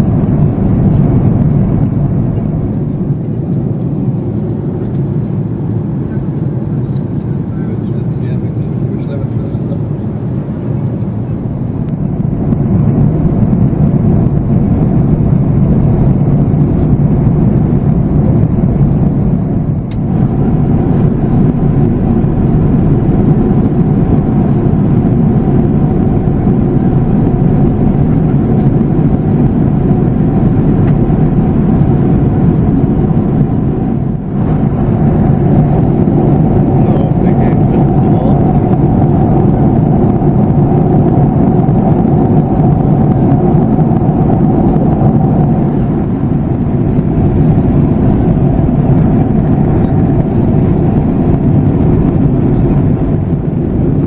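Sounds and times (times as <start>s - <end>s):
airliner cabin airflow and engine: 0.0s - 54.0s
steady hum: 0.0s - 54.0s.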